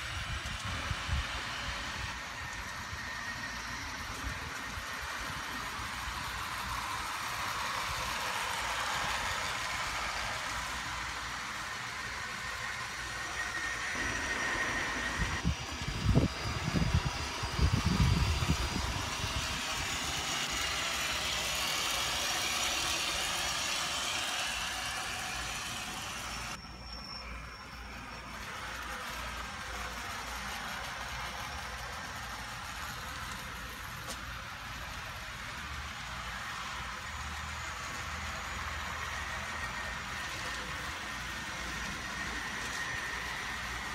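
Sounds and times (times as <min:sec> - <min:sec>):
toy trains whirring and rattling: 0:00.0 - 0:43.9.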